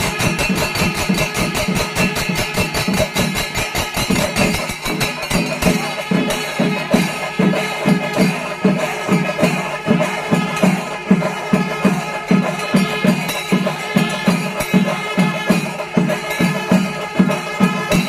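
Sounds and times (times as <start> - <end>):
cymbals ringing: 0.0 - 18.0
drums beaten in fast strokes: 0.0 - 18.0.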